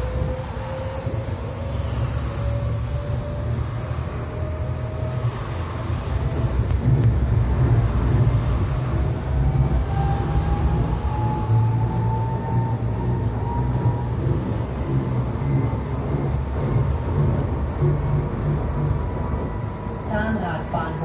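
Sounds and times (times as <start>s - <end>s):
faint rising whine: 0.0s - 20.7s
railcar running gear rumble: 0.0s - 21.0s.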